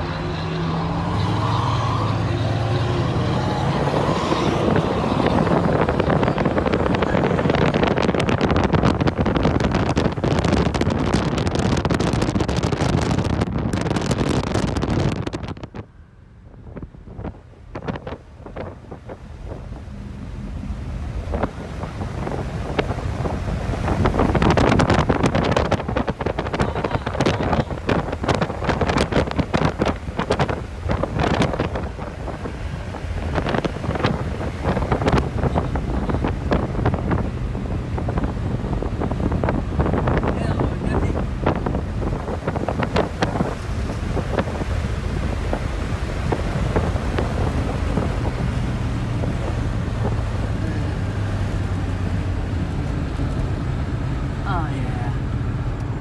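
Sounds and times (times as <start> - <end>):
wind and road noise rushing: 0.0 - 56.0.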